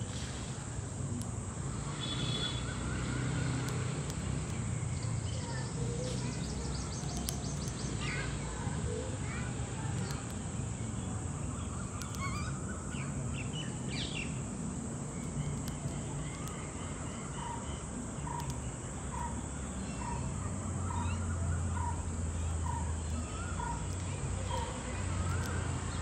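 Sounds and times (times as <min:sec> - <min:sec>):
birds chirping and calling: 0:02.2 - 0:26.0.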